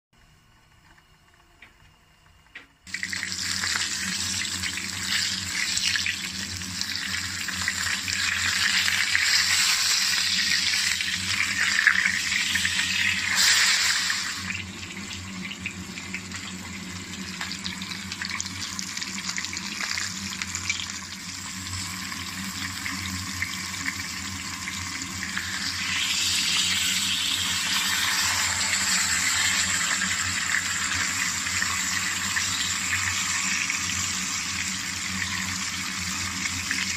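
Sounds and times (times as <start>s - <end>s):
fish sizzling in hot oil: 2.9s - 36.9s.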